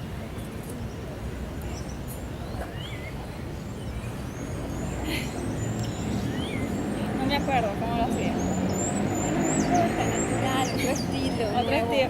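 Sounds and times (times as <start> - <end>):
distant traffic rumble: 0.0 - 12.0
birds chirping: 0.7 - 12.0.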